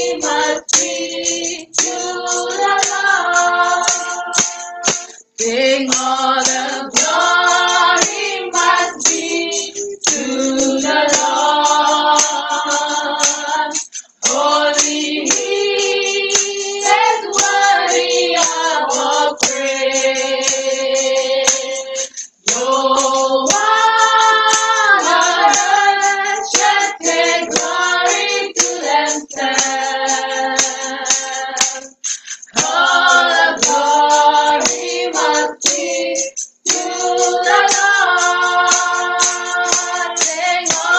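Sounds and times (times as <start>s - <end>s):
group singing worship song: 0.0s - 40.9s.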